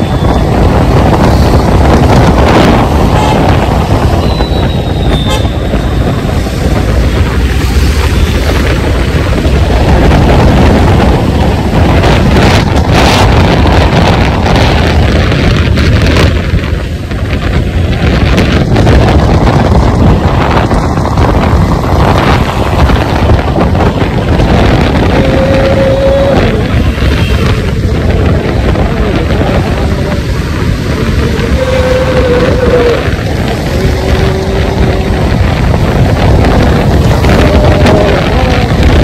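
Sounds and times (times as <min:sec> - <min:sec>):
road traffic rumble: 0:00.0 - 0:39.0
wind buffeting microphone: 0:00.0 - 0:39.0.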